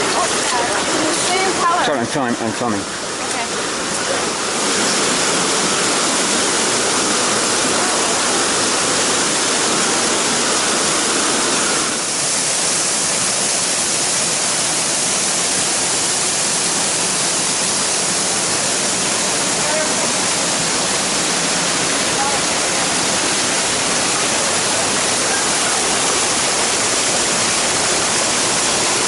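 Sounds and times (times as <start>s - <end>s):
fast-flowing water rushing: 0.0s - 29.0s.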